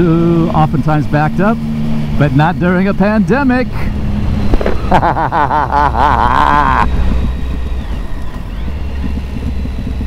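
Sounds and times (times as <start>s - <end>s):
motorcycle engine running: 0.0s - 10.0s
wind and road noise: 0.0s - 10.0s
warbling pitched tone: 1.0s - 10.0s.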